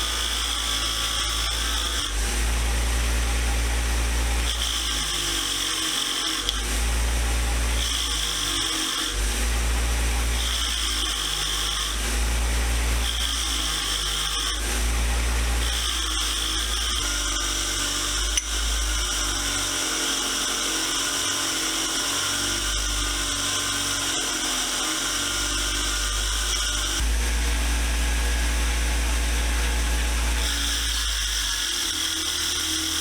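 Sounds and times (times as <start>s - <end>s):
wire wheel scrubbing metal: 0.0s - 27.0s.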